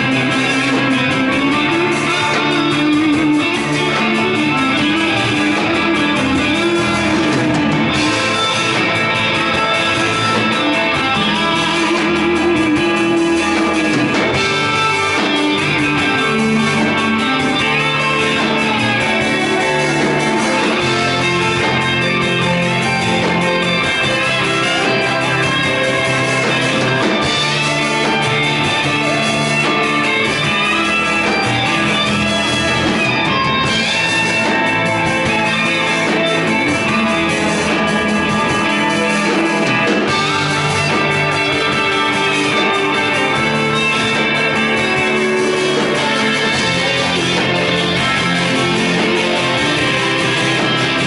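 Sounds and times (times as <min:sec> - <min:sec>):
bass guitar: 0:00.0 - 0:51.0
drums: 0:00.0 - 0:51.0
electric guitar lead lines: 0:00.0 - 0:51.0.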